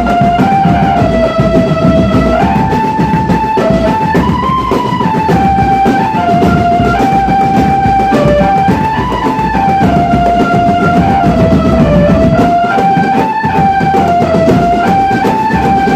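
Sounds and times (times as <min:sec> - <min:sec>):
dense drumming: 0:00.0 - 0:15.9
melody line: 0:00.0 - 0:15.9
steady bass drum beat: 0:00.0 - 0:15.9.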